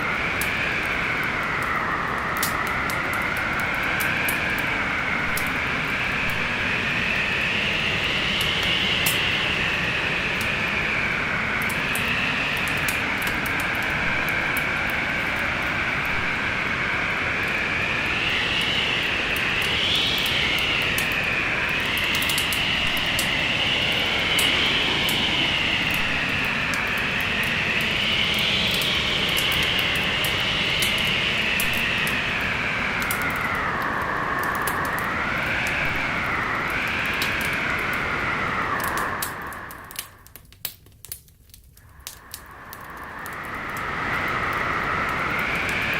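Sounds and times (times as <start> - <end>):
storm wind howling: 0.0 - 40.5, 41.8 - 45.9
wood fire crackling: 0.0 - 45.9.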